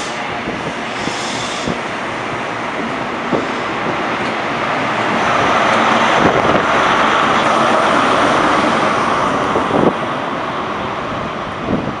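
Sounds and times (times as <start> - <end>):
diesel train engine drone with whine: 0.0 - 12.0.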